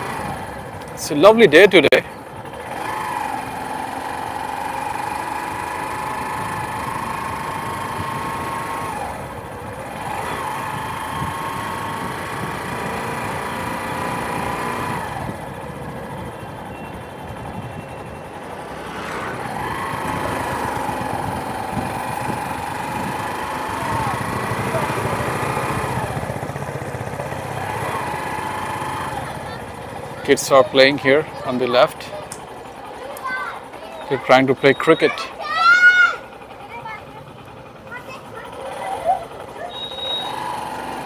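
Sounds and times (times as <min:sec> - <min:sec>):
motorcycle engine running: 0:00.0 - 0:41.0
road noise: 0:00.0 - 0:41.0.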